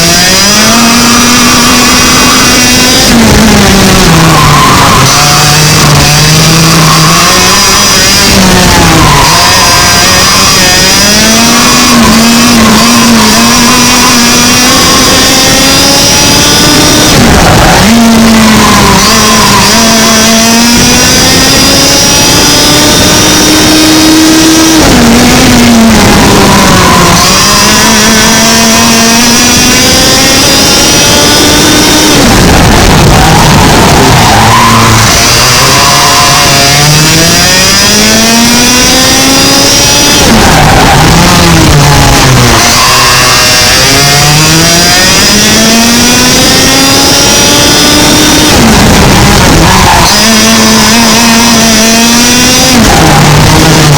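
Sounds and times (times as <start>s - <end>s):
kart engine at full throttle: 0.0s - 53.9s.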